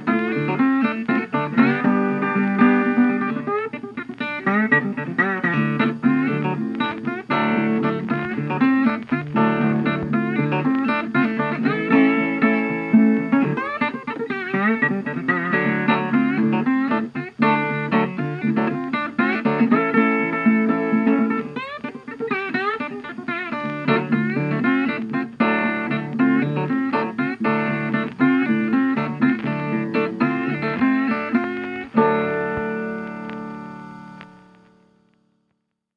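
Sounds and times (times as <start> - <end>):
guitar music: 0.0 - 35.6.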